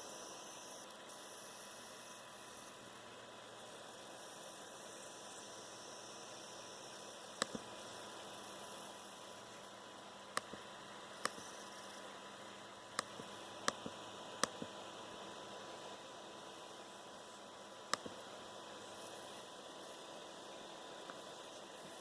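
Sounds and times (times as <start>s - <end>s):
laptop coil whine and hiss: 0.0s - 22.0s.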